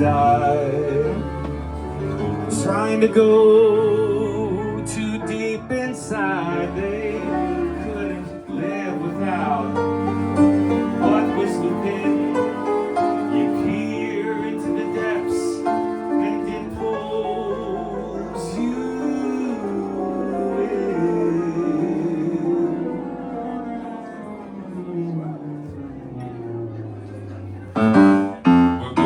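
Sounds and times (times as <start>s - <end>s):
piano: 0.0s - 29.0s
sustained string notes: 0.0s - 29.0s.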